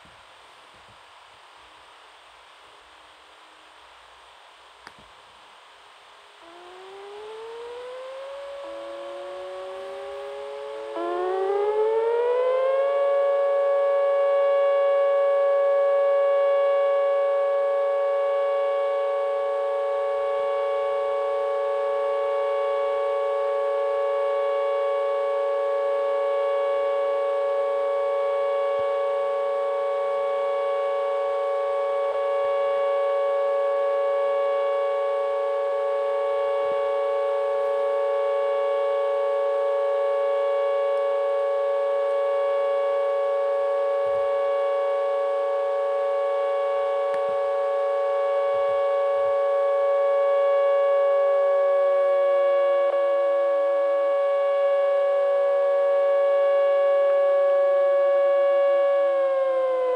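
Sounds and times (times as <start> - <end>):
outdoor warning siren: 0.0 - 59.9.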